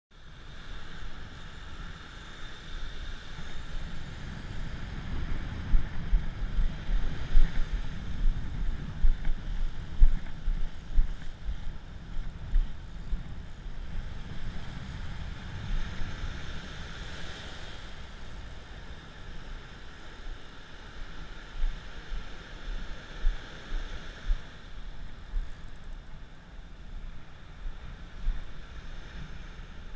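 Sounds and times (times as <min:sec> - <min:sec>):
wind buffeting microphone: 0:00.4 - 0:29.9.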